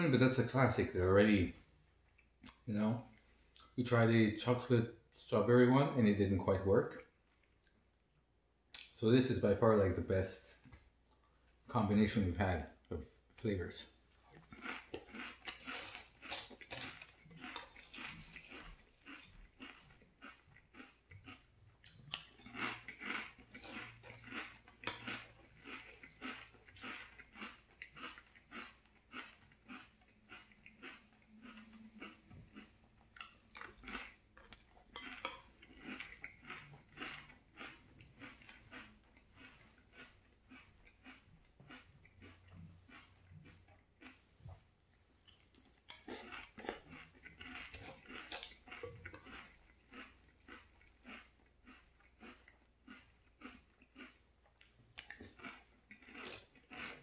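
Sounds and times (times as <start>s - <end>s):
chewing crunchy cereal: 8.8s - 57.0s.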